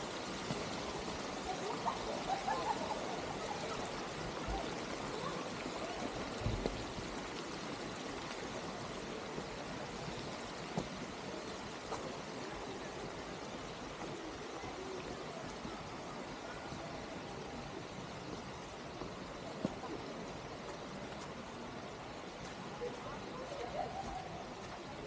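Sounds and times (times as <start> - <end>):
water rushing and splashing: 0.0 - 25.0.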